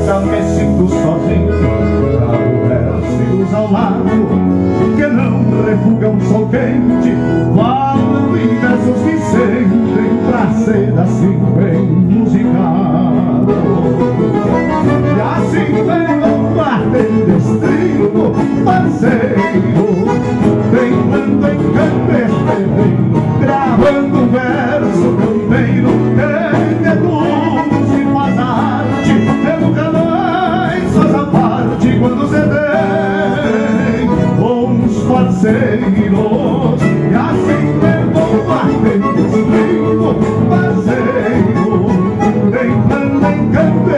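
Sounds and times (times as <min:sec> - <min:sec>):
acoustic guitars strummed and picked: 0:00.0 - 0:43.9.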